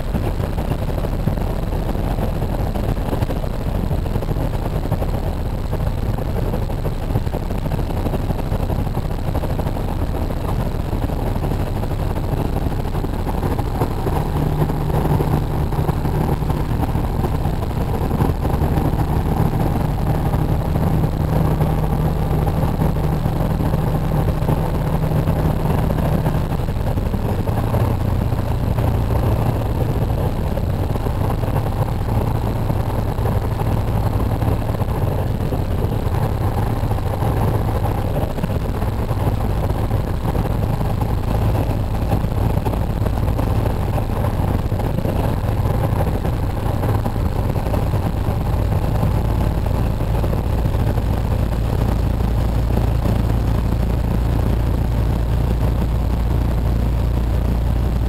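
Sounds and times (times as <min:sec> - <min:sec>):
road noise inside cab: 0:00.0 - 0:58.0
truck diesel engine drone: 0:00.0 - 0:58.0.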